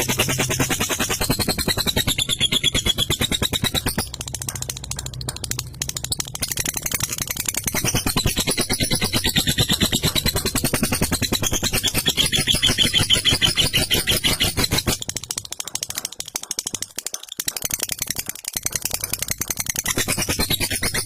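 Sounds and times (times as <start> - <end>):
lovebird rattling chatter: 0.0 - 21.0.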